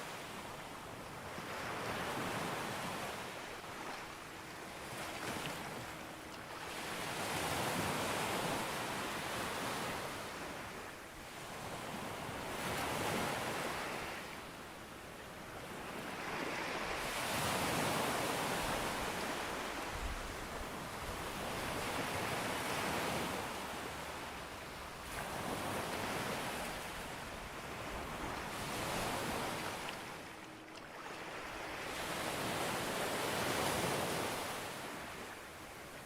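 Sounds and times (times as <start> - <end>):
sea waves breaking on a beach: 0.0 - 36.0.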